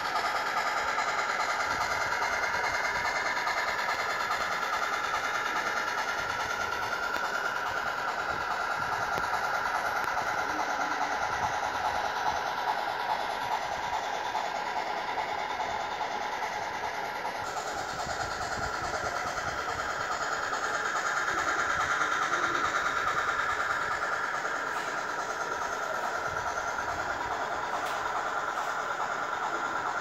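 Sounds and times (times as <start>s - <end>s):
model train running on track: 0.0s - 30.0s.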